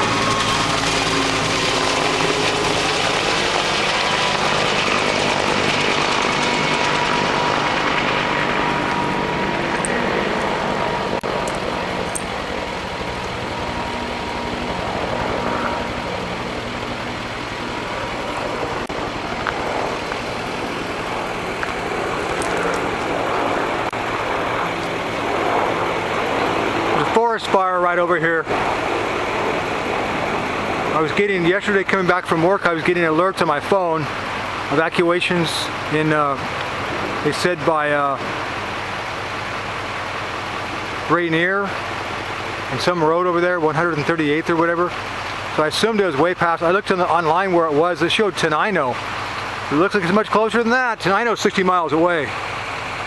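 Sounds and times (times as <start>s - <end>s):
helicopter rotor and engine: 0.0s - 53.0s
thin steady whine: 0.0s - 53.0s.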